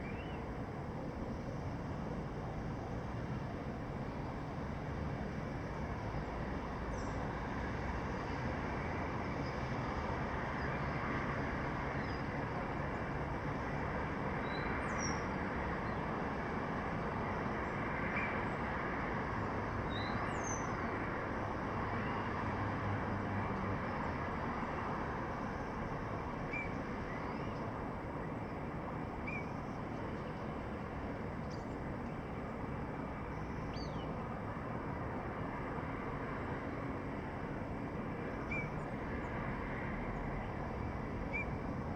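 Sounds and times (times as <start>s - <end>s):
city traffic noise: 0.0s - 41.9s.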